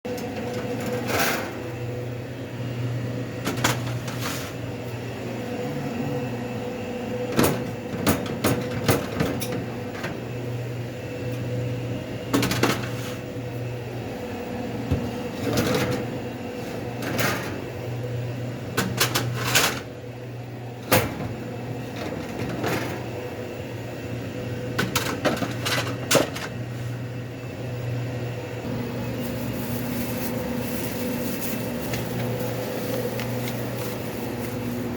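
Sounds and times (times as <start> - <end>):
equipment humming: 0.0 - 34.9.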